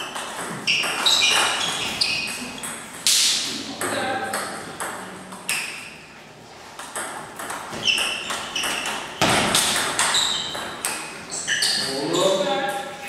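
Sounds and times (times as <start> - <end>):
table tennis ball pinging: 0.0 - 6.0, 6.8 - 11.8.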